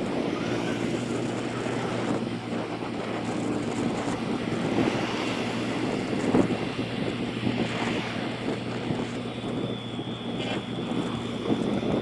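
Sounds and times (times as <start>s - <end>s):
motorbike engine and tyres: 0.0s - 12.0s
wind rushing over microphone: 0.0s - 12.0s.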